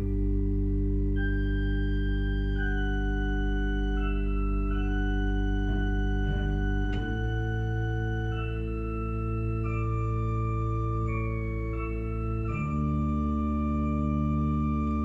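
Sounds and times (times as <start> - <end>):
pipe organ chords: 0.0 - 15.0.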